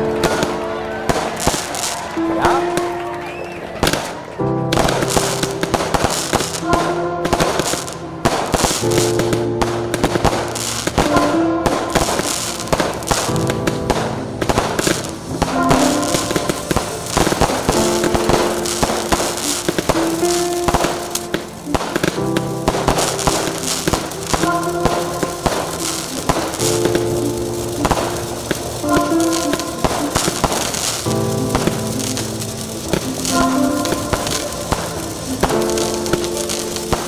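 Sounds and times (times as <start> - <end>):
background music of held chords: 0.0 - 37.0
fireworks bangs and crackles: 0.0 - 37.0.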